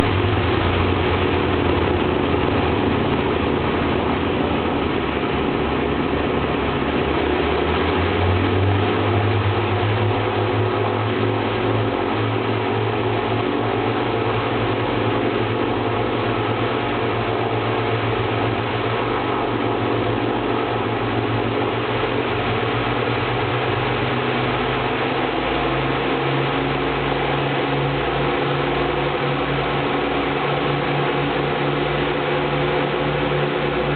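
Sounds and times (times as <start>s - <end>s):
aircraft engines droning: 0.0s - 33.9s.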